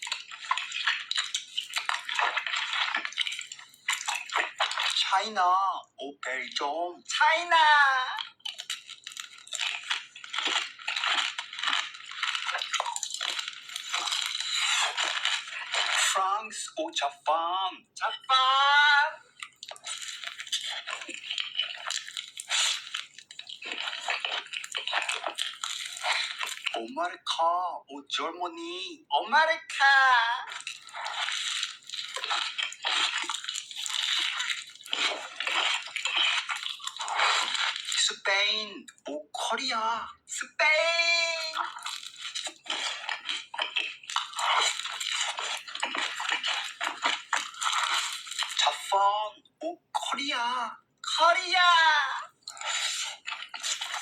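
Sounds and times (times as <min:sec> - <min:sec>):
person chewing crunchy food: 0:00.0 - 0:05.3, 0:06.6 - 0:16.6, 0:19.2 - 0:26.9, 0:30.0 - 0:39.6, 0:40.7 - 0:49.1, 0:51.0 - 0:54.0.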